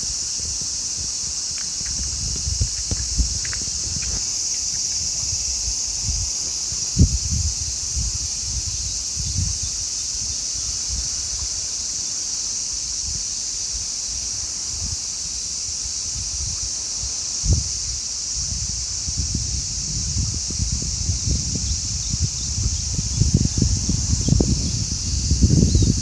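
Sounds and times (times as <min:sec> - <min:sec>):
wind buffeting microphone: 0:00.0 - 0:11.5, 0:16.0 - 0:26.0
cicadas buzzing: 0:00.0 - 0:26.0.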